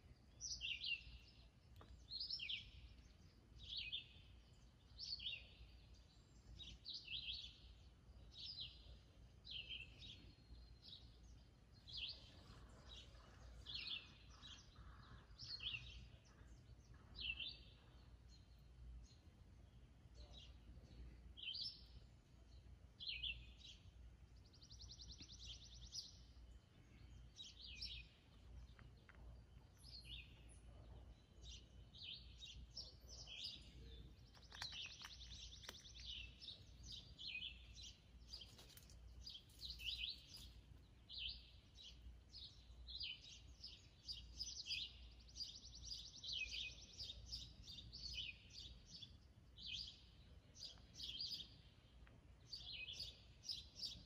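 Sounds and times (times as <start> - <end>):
birds chirping: 0.2 - 54.0.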